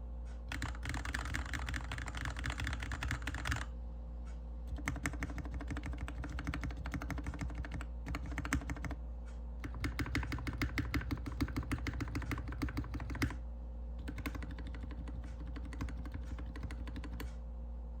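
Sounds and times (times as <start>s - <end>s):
mechanical keyboard keys clacking: 0.5s - 3.7s, 4.7s - 9.0s, 9.6s - 13.4s, 14.0s - 17.3s.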